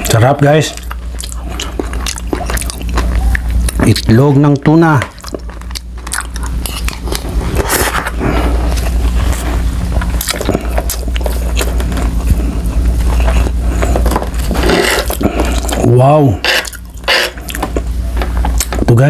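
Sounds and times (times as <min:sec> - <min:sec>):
wet chewing: 0:00.0 - 0:15.8, 0:16.5 - 0:17.9
low steady hum: 0:00.0 - 0:19.0.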